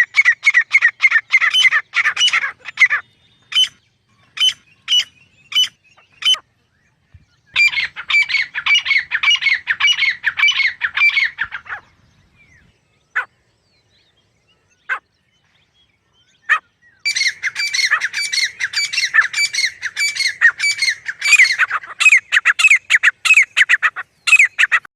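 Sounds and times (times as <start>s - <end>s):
francolin calling: 0.0s - 6.5s, 7.4s - 24.9s.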